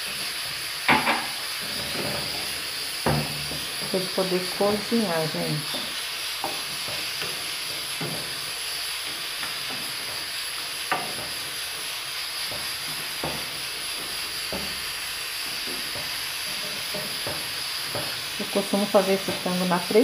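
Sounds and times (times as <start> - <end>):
steam hissing and sizzling: 0.0 - 20.0.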